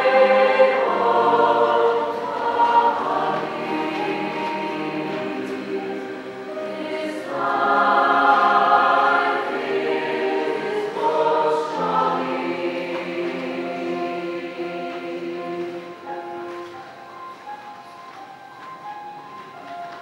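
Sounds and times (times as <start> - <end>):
choir singing sustained chords: 0.0 - 16.5.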